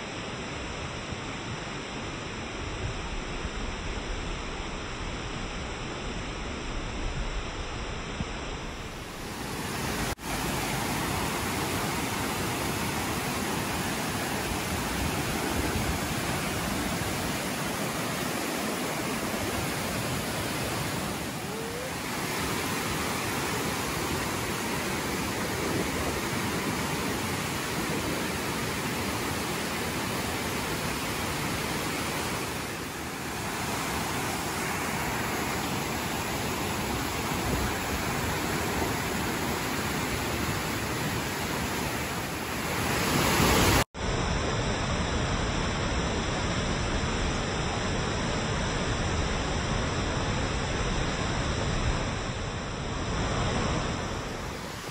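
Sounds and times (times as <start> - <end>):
waterfall rushing: 8.6 - 43.9, 45.2 - 54.9.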